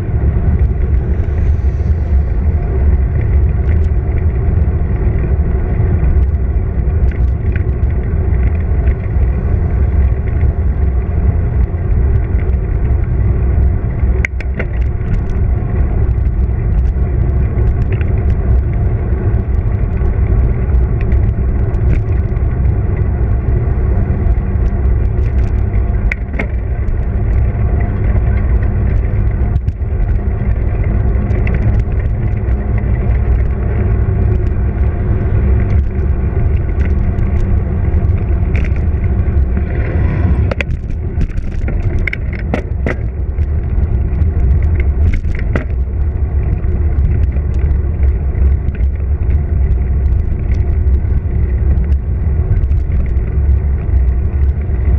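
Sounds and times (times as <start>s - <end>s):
bike clicks and rattles: 0.0s - 54.9s
road noise: 0.0s - 54.9s
wind buffeting microphone: 0.0s - 54.9s.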